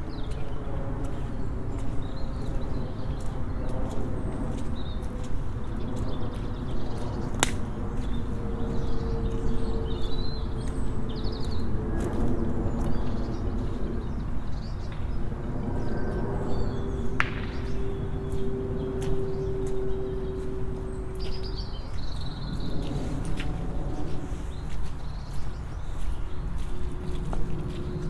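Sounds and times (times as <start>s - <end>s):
small birds chirping: 0.1s - 28.0s
droning hum: 2.7s - 28.0s.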